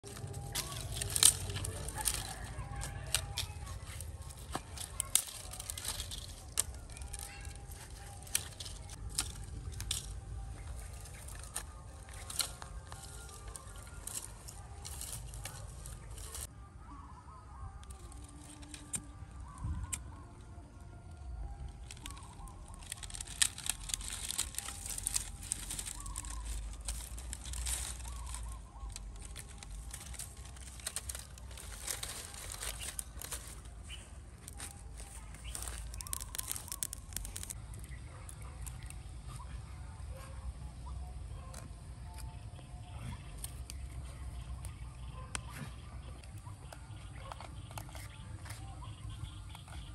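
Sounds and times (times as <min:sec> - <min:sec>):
dry sticks snapping: 0:00.0 - 0:16.5, 0:17.7 - 0:39.5, 0:41.3 - 0:49.9.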